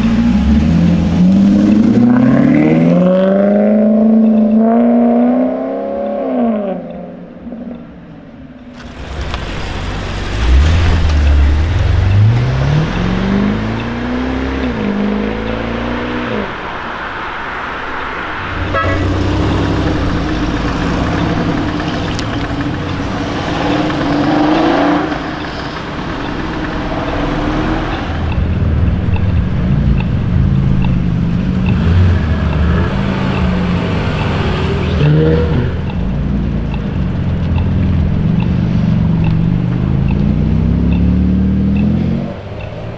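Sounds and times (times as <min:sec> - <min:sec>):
car engines revving and accelerating: 0:00.0 - 0:42.9.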